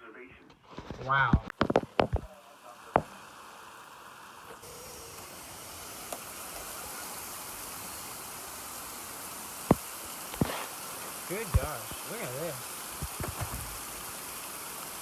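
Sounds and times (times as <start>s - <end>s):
heavy rain hiss: 0.8s - 15.0s.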